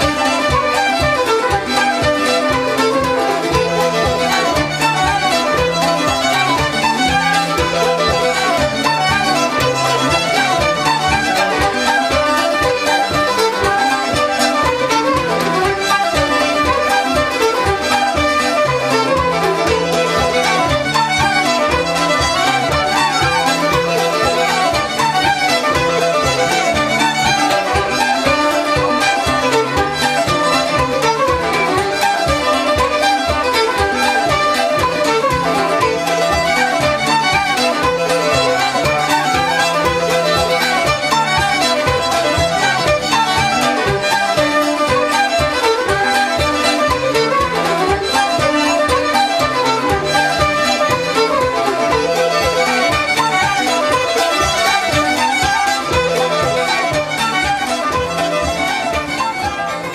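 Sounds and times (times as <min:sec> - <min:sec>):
instrumental folk music with fiddle: 0:00.0 - 0:59.9.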